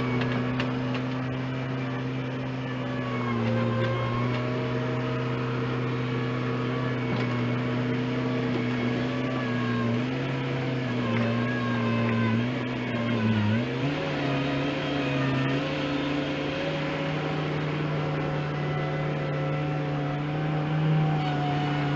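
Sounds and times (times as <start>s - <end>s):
loader diesel engine running: 0.0s - 21.9s.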